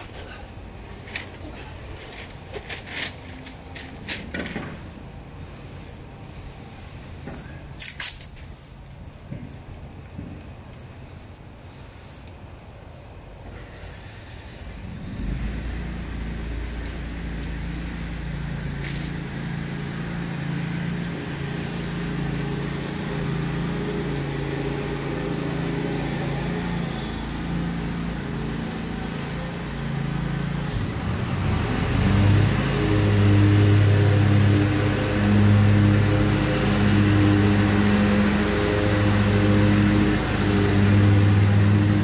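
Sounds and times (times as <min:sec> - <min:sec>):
engine humming: 0:00.0 - 0:42.0.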